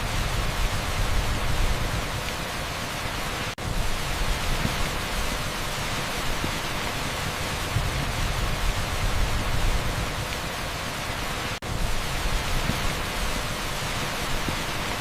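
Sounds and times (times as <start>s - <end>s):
torrential rain on asphalt: 0.0s - 15.0s.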